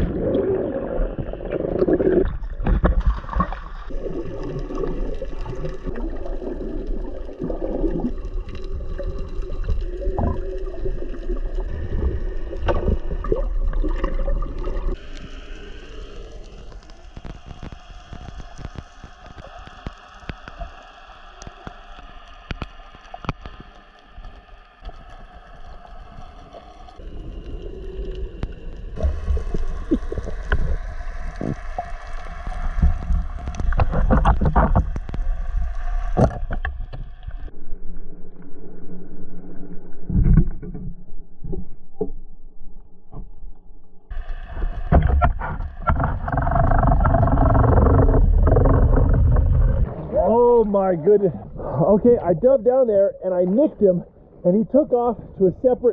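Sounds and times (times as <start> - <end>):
deep underwater rumble: 0.0 - 55.9
underwater rushing and bubbling: 0.0 - 55.9.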